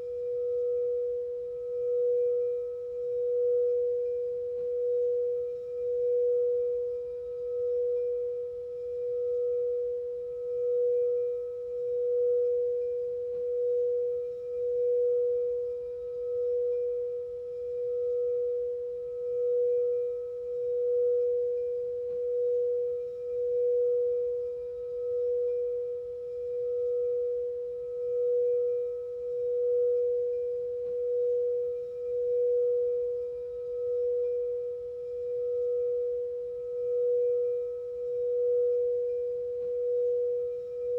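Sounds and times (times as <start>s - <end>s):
singing bowl tone: 0.0s - 40.9s.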